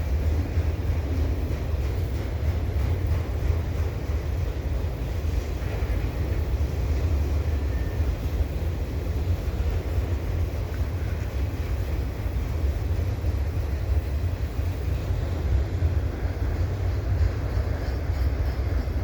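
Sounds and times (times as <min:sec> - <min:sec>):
freight train rolling on rails: 0:00.0 - 0:19.0.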